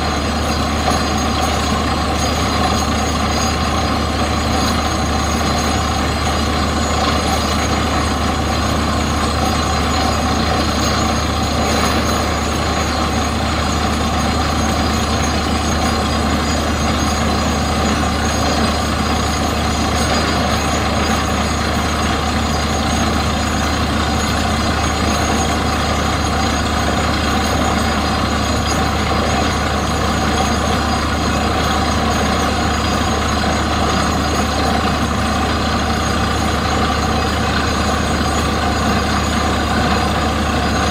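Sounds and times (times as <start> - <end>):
drilling rig engine drone: 0.0 - 40.9.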